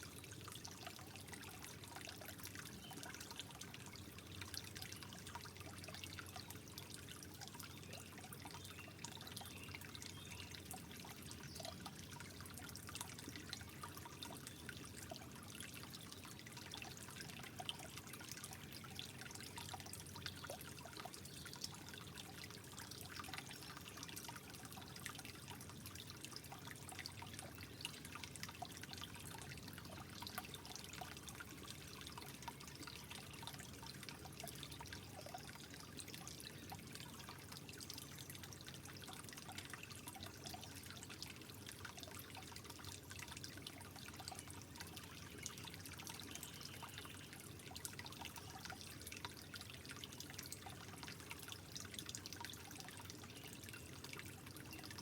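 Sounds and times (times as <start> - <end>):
water drips and splashes: 0.0 - 55.0
water trickling: 0.0 - 55.0.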